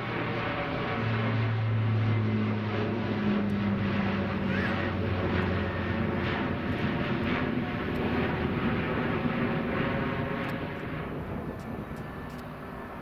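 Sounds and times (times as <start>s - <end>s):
airliner engine rush: 0.0s - 13.0s.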